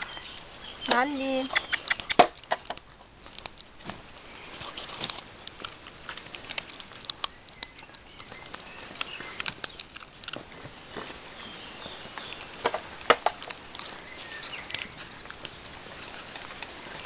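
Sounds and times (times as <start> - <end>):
puppy gnawing chew bone: 0.0 - 17.0.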